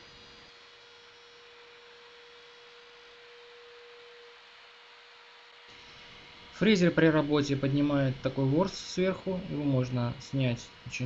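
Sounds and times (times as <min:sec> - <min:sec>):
hand-held router humming: 0:00.0 - 0:11.0.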